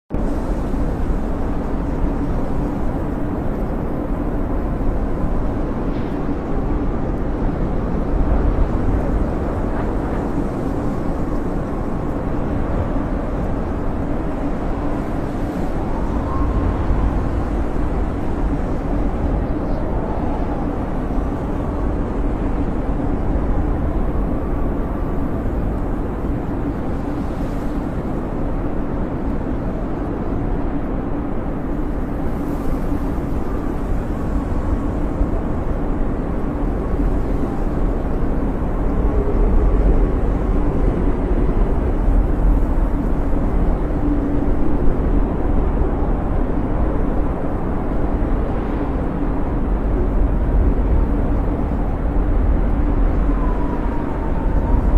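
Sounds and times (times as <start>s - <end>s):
snowstorm wind howling: 0.1s - 54.9s.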